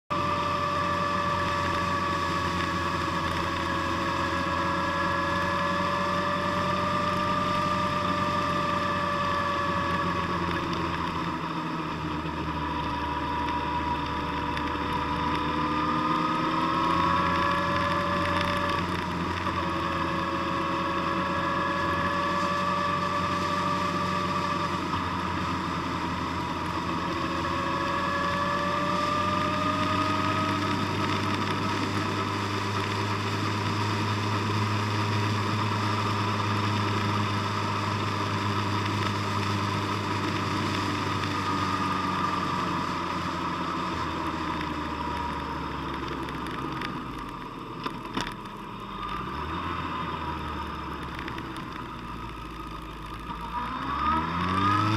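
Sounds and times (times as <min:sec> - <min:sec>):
road and wind noise: 0:00.0 - 0:54.9
vehicle engine droning with whine: 0:00.0 - 0:54.9.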